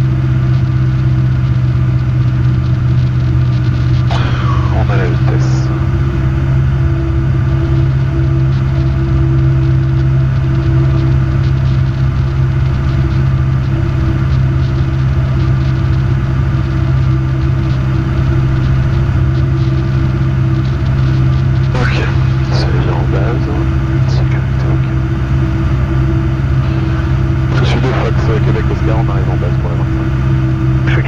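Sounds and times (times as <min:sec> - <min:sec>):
aircraft engine and propeller droning: 0:00.0 - 0:31.0.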